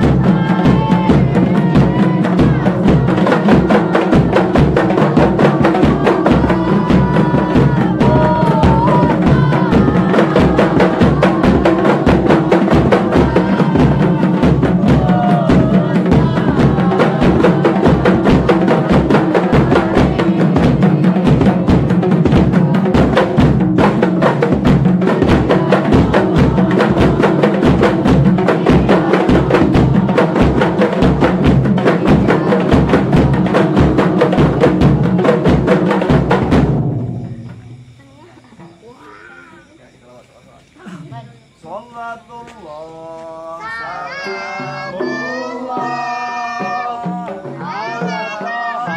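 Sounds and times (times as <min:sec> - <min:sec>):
man singing: 0:00.0 - 0:23.4, 0:24.0 - 0:35.5, 0:41.7 - 0:48.9
hand frame drums beating: 0:00.0 - 0:39.8, 0:43.6 - 0:48.9.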